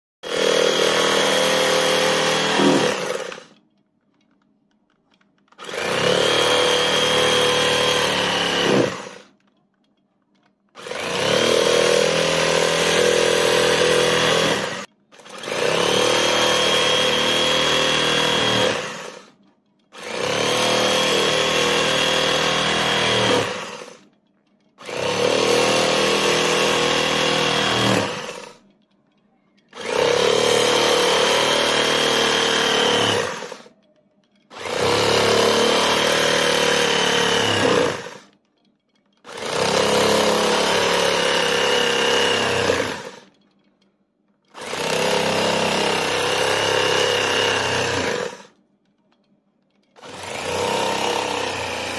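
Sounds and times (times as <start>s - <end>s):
electric knife motor whining: 0.2s - 3.6s, 5.5s - 9.4s, 10.8s - 24.1s, 24.8s - 28.7s, 29.7s - 33.7s, 34.5s - 38.3s, 39.3s - 43.3s, 44.5s - 48.6s, 50.0s - 51.9s.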